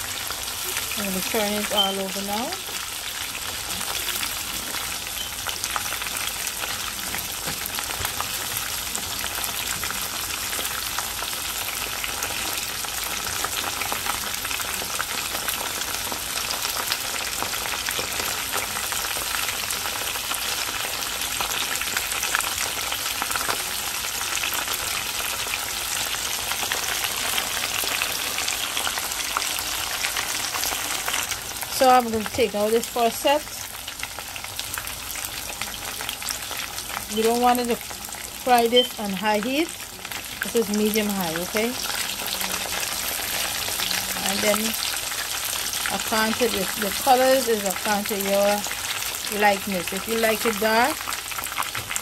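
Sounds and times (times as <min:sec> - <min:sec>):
chicken deep-frying in oil: 0:00.0 - 0:52.0.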